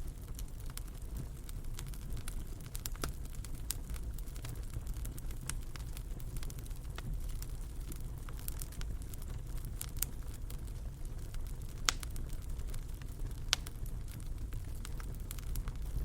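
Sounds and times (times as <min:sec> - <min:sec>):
fire crackling in fireplace: 0:00.0 - 0:16.0.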